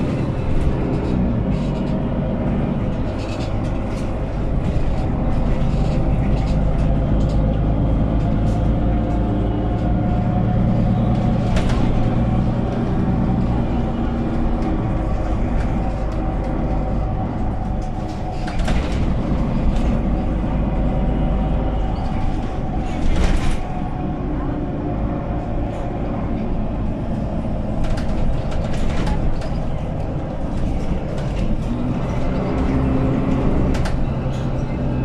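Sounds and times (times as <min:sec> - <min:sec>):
bus diesel engine: 0:00.0 - 0:35.0
road noise: 0:00.0 - 0:35.0.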